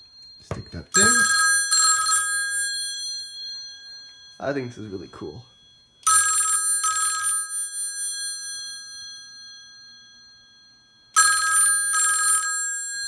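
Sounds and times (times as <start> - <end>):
telephone bell ringing: 0.0 - 13.0.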